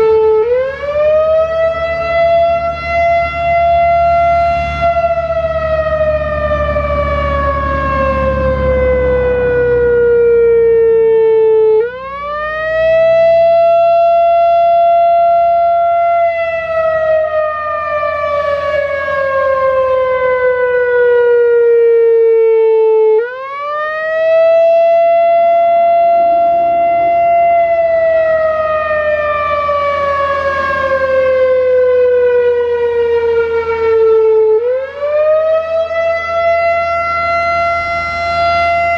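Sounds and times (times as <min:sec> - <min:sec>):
warning siren slow wail: 0:00.0 - 0:38.9.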